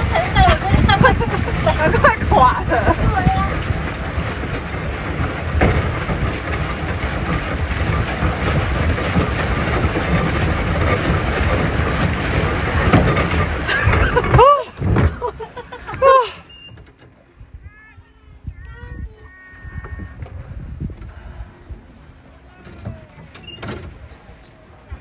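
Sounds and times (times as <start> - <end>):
wind buffeting microphone: 0.0 - 16.0, 17.2 - 22.2
water churning under pedal boat: 0.0 - 17.6, 18.4 - 25.0.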